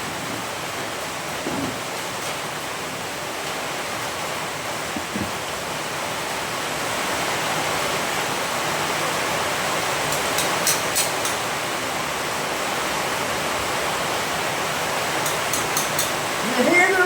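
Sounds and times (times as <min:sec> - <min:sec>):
heavy rain on roof: 0:00.0 - 0:17.0.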